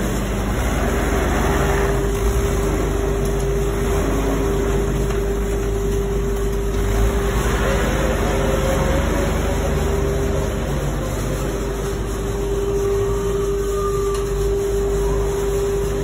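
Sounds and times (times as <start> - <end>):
tractor engine running: 0.0 - 13.2
high-pitched hum: 0.0 - 16.0.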